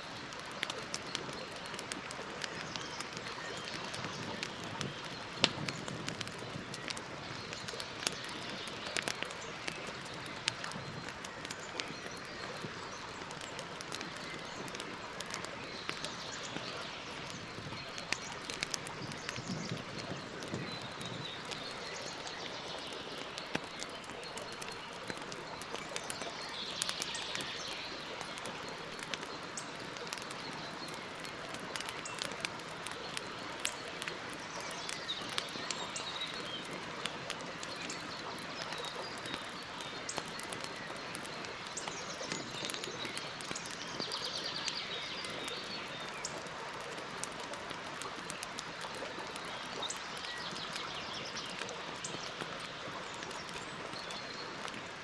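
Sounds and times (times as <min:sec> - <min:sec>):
campfire crackling and popping: 0:00.0 - 0:55.0
birds chirping: 0:00.7 - 0:47.3.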